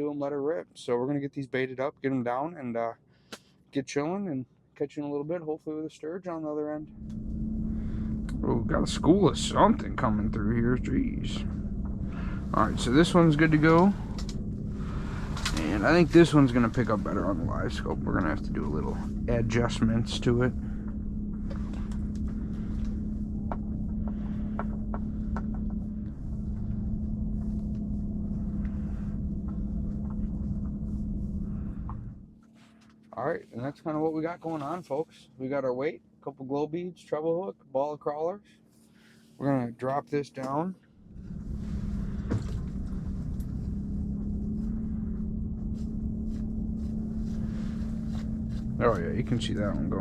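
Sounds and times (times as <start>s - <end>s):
low hum over rumble: 0.0s - 50.0s.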